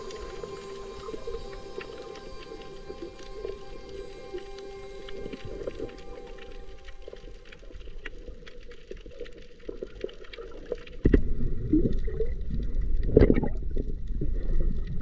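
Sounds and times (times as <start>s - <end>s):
faint underwater clicks: 0.0s - 15.0s
water rumbling and sloshing: 0.0s - 15.0s.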